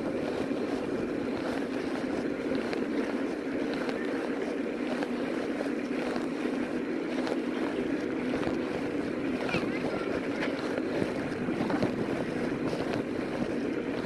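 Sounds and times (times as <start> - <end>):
tyre road noise: 0.0 - 14.0
wind on microphone: 0.0 - 14.0.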